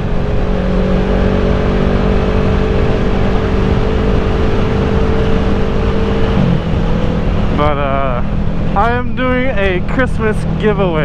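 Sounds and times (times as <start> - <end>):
wind noise over helmet: 0.0 - 10.6
motorcycle engine cruising: 0.0 - 11.0.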